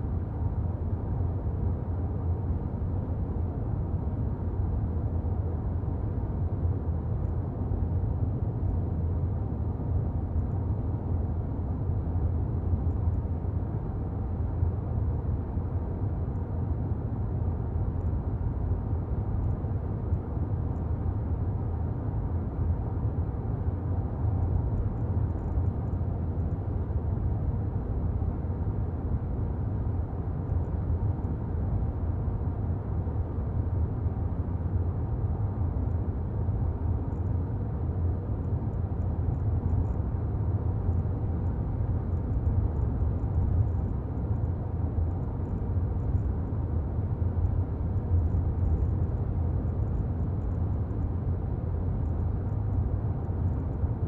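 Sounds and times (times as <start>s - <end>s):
car engine and tyre rumble: 0.4s - 54.0s.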